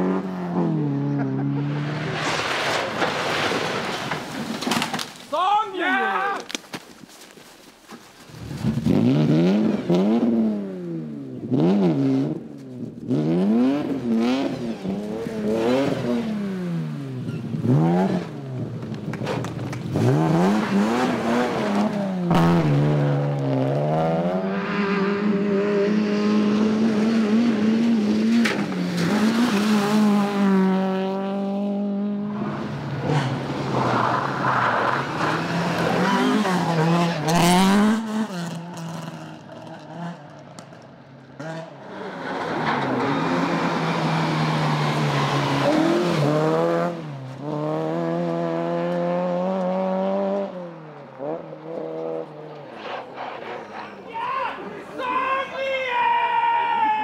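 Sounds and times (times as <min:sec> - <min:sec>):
rally car engines revving: 0:00.0 - 0:04.6, 0:08.3 - 0:55.0.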